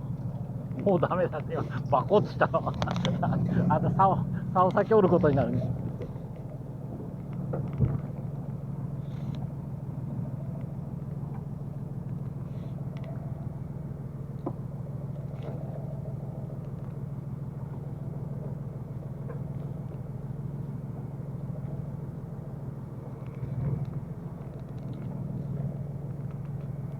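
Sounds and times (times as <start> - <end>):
boat engine humming: 0.0 - 26.9.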